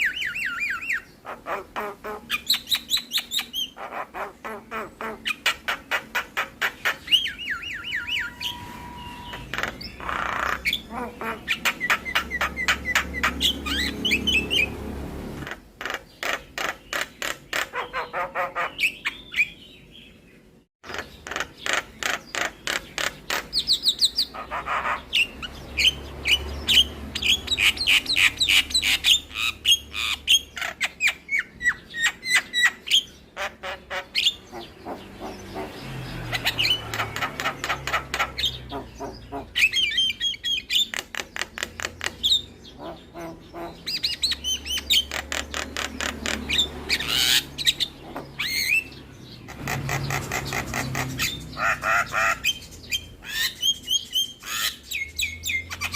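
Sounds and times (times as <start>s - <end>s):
bird singing varied song: 0.0s - 55.9s.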